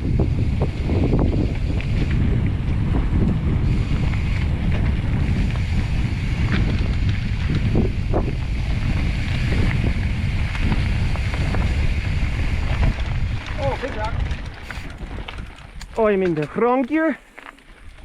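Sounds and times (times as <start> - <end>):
bike rolling on dirt trail: 0.0 - 18.0
wind buffeting microphone: 0.0 - 18.0.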